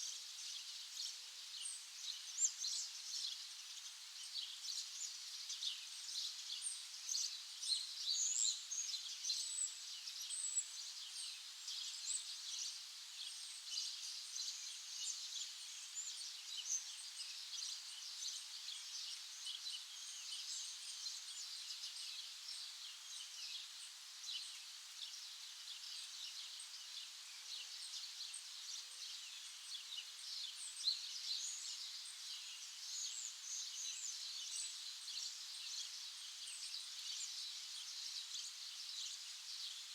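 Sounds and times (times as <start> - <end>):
small birds chirping and singing: 0.1 - 39.9.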